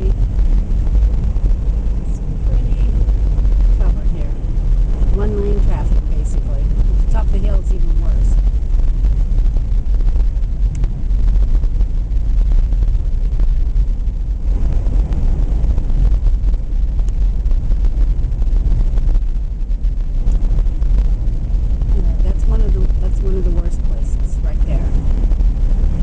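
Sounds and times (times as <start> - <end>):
road and engine rumble: 0.0 - 26.0.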